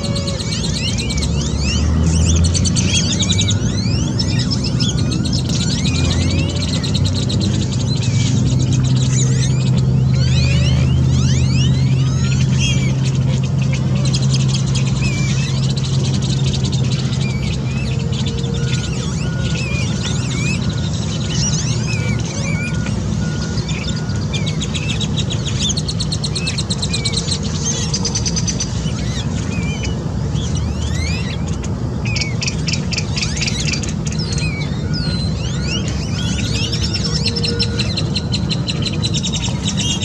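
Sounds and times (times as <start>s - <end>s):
birds chirping: 0.0s - 40.0s
fast rattling bird trills: 0.0s - 40.0s.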